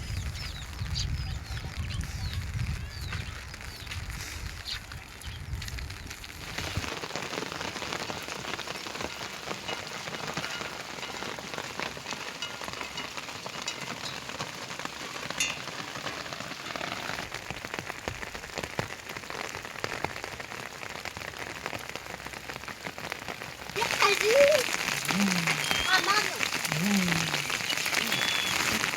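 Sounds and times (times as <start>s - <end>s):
heavy rain pattering: 0.0s - 28.9s.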